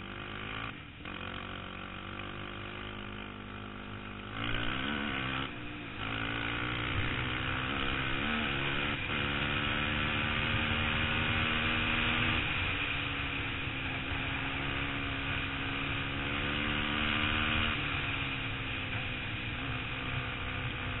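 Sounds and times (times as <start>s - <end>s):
atv engine running hard: 0.0s - 21.0s.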